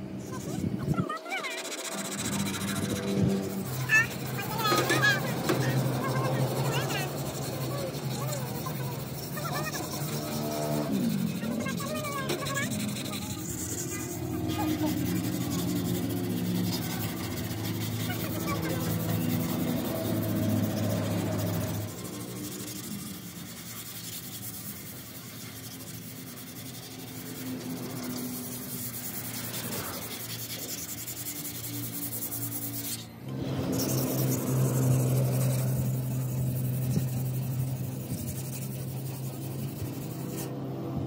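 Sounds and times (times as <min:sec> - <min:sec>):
sandpaper rubbing on sheet metal: 0:00.1 - 0:41.0.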